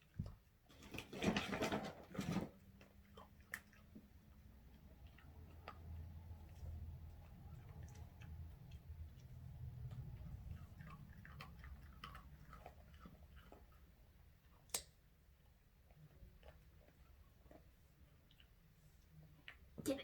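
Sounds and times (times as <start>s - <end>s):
pet chewing food: 0.0s - 20.0s.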